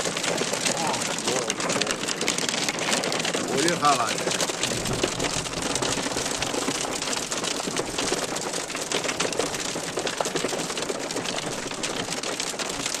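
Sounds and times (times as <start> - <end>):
hail drumming on car roof: 0.0 - 13.0.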